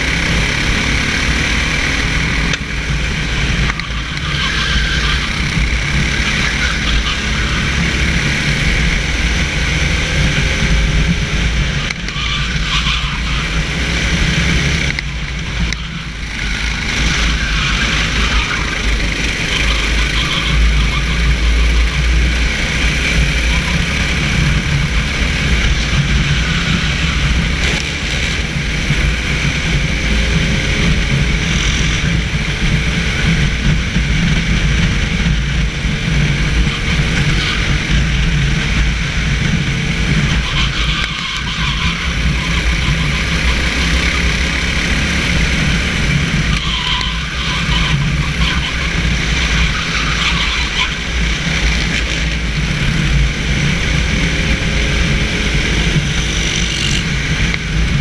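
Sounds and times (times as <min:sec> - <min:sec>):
kart engine running: 0:00.0 - 0:58.0
wind and road rumble: 0:00.0 - 0:58.0.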